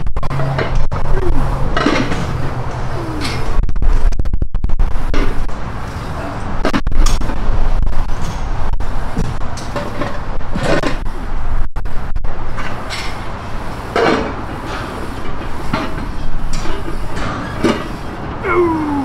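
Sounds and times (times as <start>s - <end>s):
outdoor rumble: 0.0s - 19.0s.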